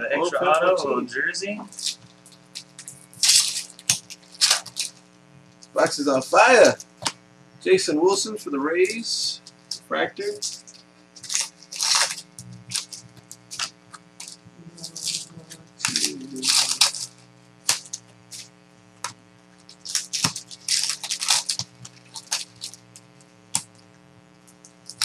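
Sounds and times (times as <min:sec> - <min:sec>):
foil wrappers crinkling: 0:01.7 - 0:07.2, 0:08.9 - 0:25.0.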